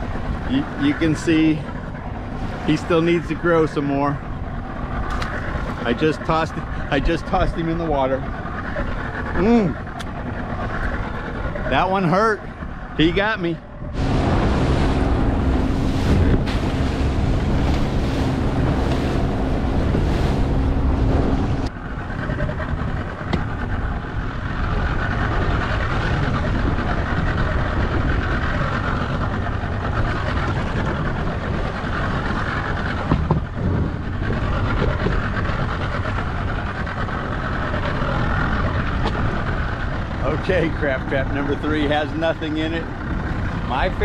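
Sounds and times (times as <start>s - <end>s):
outboard motor running: 0.0s - 44.0s
water rushing: 0.0s - 44.0s
wind rushing on microphone: 0.0s - 44.0s.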